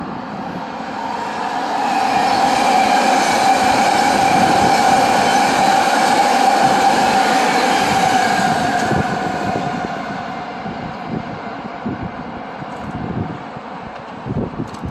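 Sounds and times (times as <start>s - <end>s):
train passing with whine and rumble: 0.0s - 14.9s.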